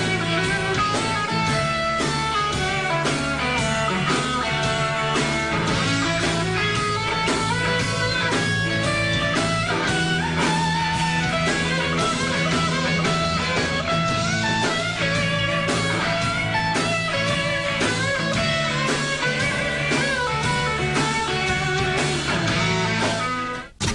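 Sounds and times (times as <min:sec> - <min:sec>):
rock music with electric guitar: 0:00.0 - 0:23.9.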